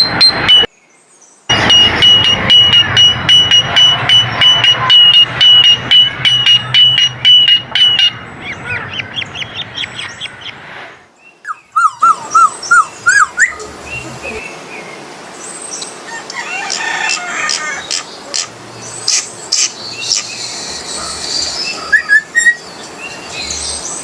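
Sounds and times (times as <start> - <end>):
bird calling: 1.5 - 10.6, 11.3 - 14.9, 15.7 - 24.0.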